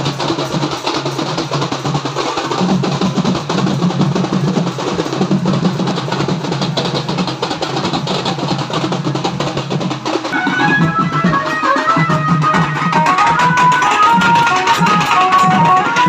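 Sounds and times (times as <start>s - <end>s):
loud drum and percussion music: 0.0s - 16.0s.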